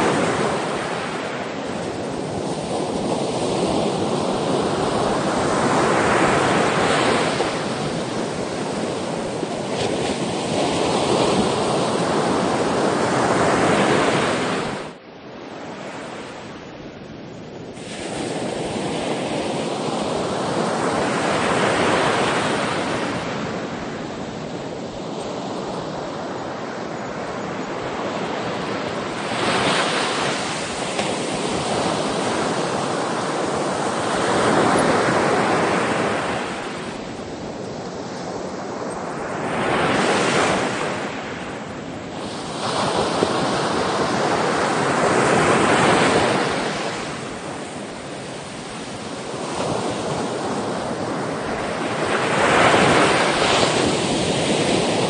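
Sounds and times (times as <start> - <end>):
sea waves breaking: 0.0 - 15.0, 17.8 - 55.0.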